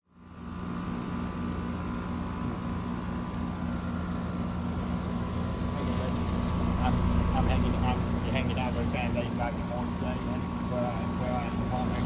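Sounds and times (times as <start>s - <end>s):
compressor hum: 0.0s - 12.0s
condenser fan rushing: 0.1s - 12.0s.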